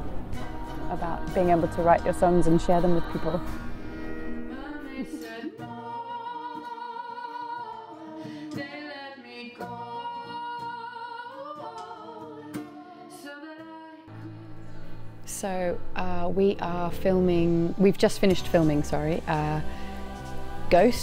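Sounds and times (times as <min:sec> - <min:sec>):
woman singing slow song: 0:00.4 - 0:21.0.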